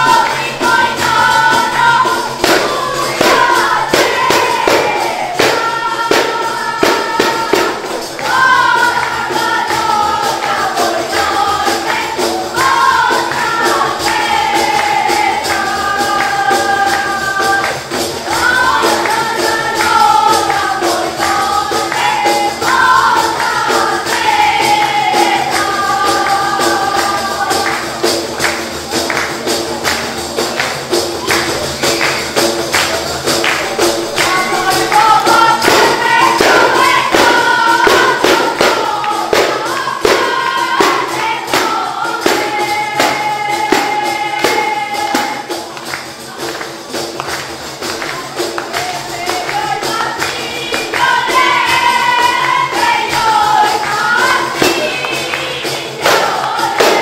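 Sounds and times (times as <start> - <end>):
jingled frame drums beating: 0.0 - 57.0.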